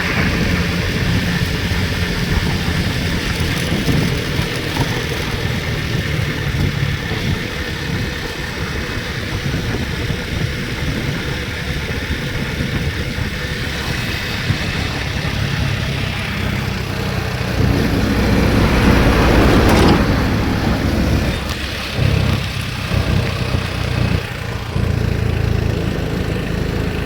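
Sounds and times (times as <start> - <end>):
moving vehicle rumble and hiss: 0.0 - 27.0.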